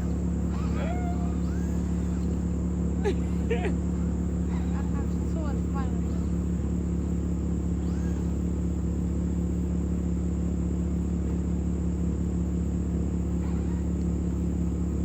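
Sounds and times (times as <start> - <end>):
low engine-like rumble: 0.0 - 15.0.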